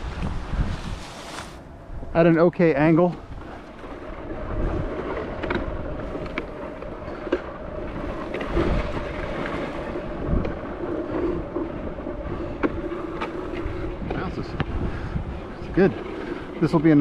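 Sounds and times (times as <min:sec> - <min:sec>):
wind on microphone: 0:00.0 - 0:17.0
vehicle engine humming: 0:01.4 - 0:17.0.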